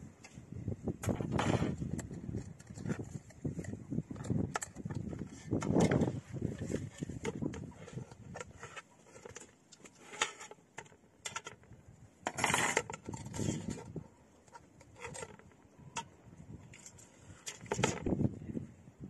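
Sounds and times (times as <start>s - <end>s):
scraping rustle: 0.2s - 15.7s, 16.6s - 18.3s.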